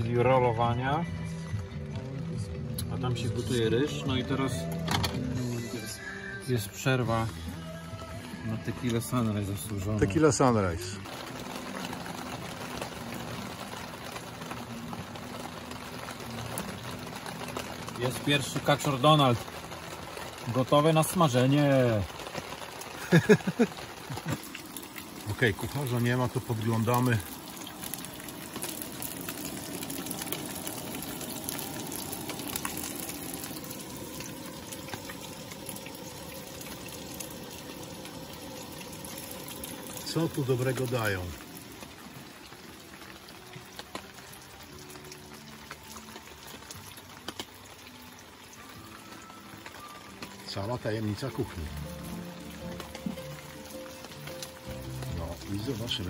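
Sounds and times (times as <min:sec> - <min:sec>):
pot of rice boiling: 0:00.0 - 0:56.0
food frying in hot oil: 0:01.8 - 0:56.0.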